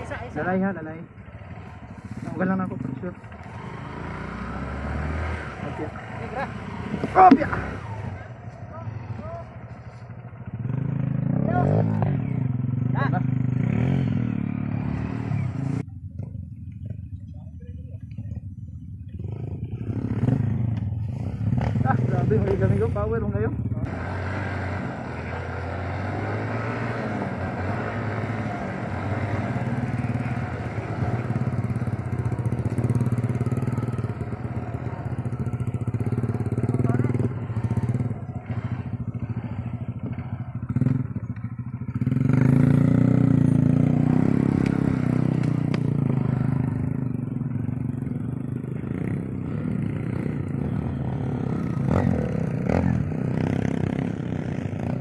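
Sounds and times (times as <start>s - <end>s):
motorcycle engine revving: 0.0s - 17.3s, 18.1s - 55.0s.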